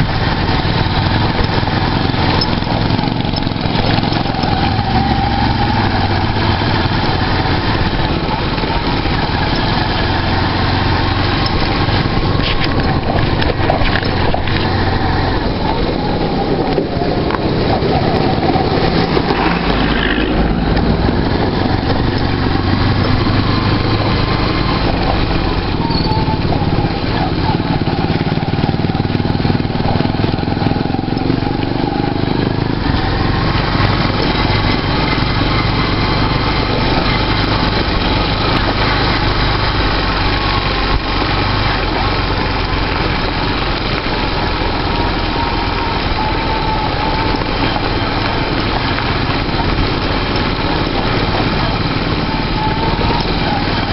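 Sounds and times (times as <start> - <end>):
motorcycle engine running: 0.0 - 53.9
road and wind noise: 0.0 - 53.9.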